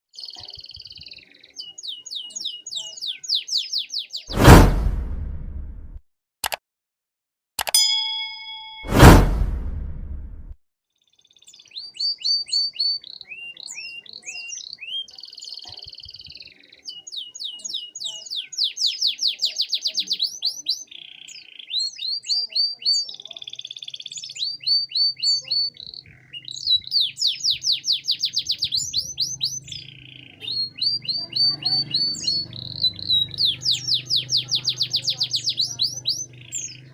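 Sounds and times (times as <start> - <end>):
canary singing trills: 0.2 - 4.3, 11.0 - 36.9.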